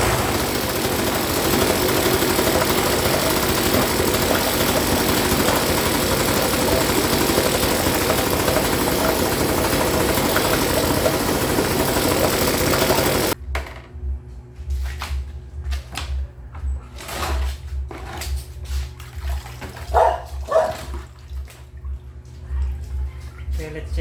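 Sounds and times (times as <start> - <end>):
outboard motor running: 0.0 - 13.4, 16.7 - 24.0.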